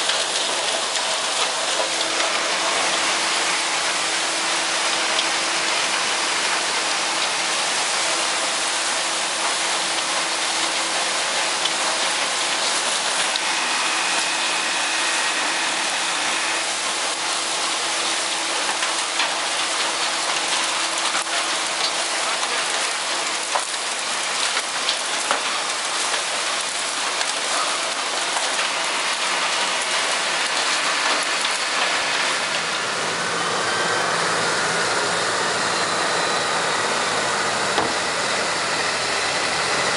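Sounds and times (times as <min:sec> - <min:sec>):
wheel loader diesel engine: 0:00.0 - 0:39.9
wood chips pouring from chute: 0:00.0 - 0:39.9.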